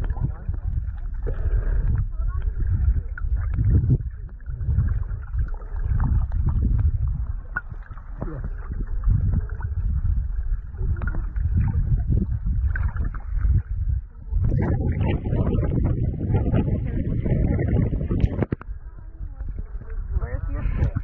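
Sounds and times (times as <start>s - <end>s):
underwater sloshing rumble: 0.0s - 21.0s
water splashing: 0.0s - 21.0s.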